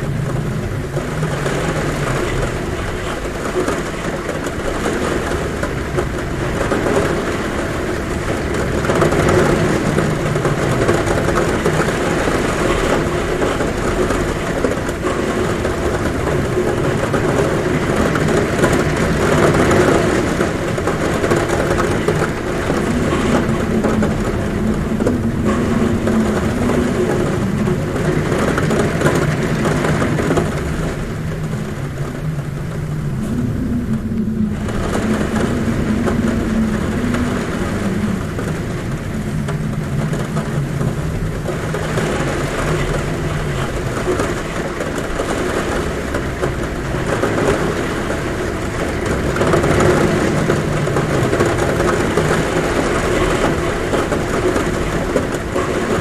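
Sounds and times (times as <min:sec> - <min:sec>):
heavy rain on a roof: 0:00.0 - 0:56.0
wind humming at a window: 0:00.0 - 0:56.0.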